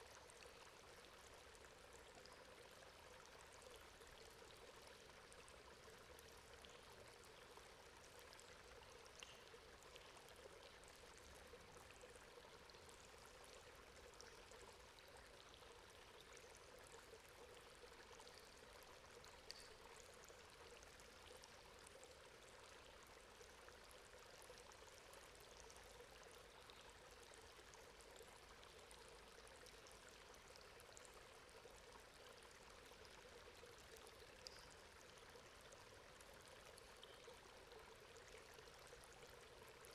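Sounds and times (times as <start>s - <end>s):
water drip ticks: 6.1s - 12.0s, 12.6s - 39.2s.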